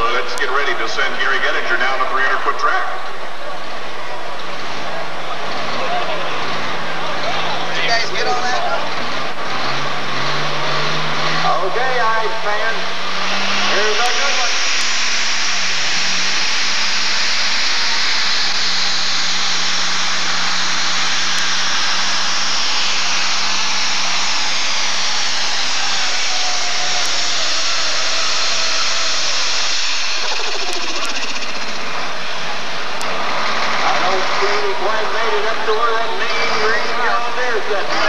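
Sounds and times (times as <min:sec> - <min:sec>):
tractor diesel engine at full throttle: 0:00.0 - 0:38.0.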